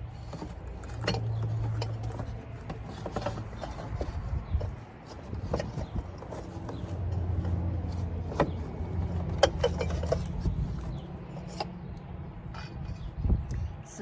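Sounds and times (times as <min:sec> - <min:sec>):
items being handled: 0:00.0 - 0:11.8.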